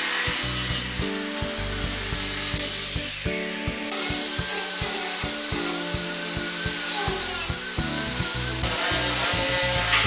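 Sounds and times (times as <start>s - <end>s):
background music with beat: 0.0s - 10.0s
electric sander on wood: 0.0s - 10.0s.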